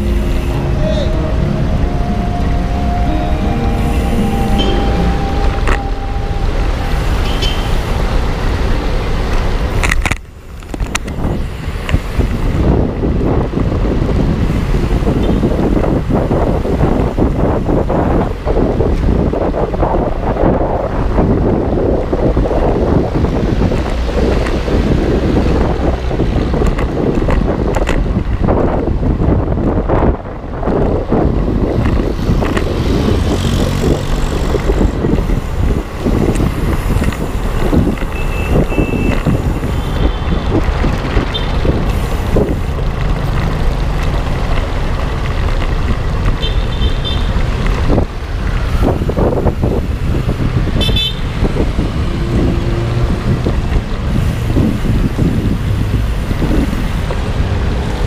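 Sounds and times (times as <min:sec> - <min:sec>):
street traffic: 0:00.0 - 0:58.0
wind rumbling on microphone: 0:00.0 - 0:58.0.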